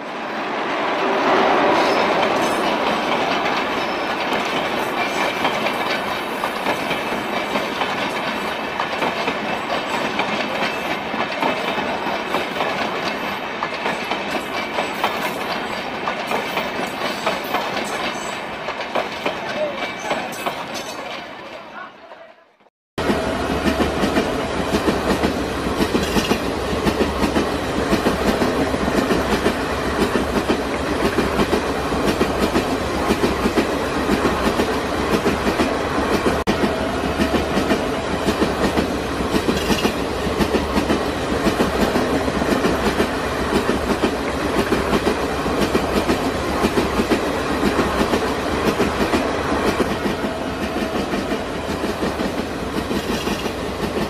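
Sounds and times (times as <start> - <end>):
train wheels clattering: 1.7 - 21.4, 23.5 - 54.0
train running gear rumble: 1.8 - 21.2, 23.0 - 54.0.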